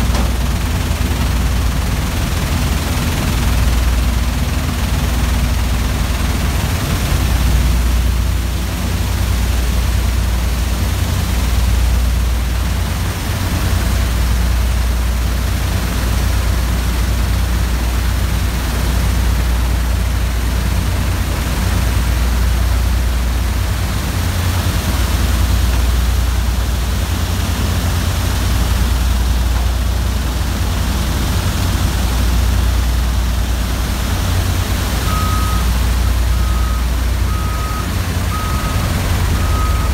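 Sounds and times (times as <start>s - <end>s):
shaker machinery with deep hum: 0.0s - 39.9s.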